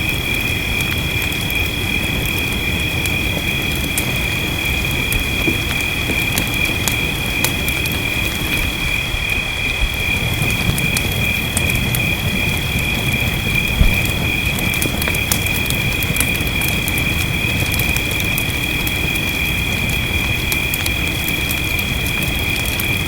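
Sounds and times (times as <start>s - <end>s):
fireplace crackling and popping: 0.0s - 23.0s
rain hiss: 0.0s - 23.0s.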